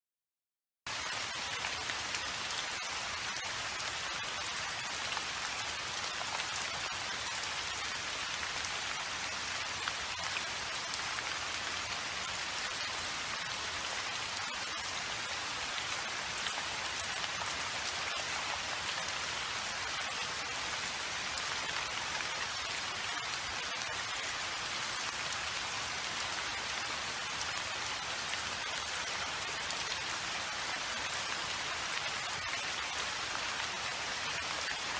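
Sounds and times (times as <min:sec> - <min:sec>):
steady rain falling: 0:00.9 - 0:34.9.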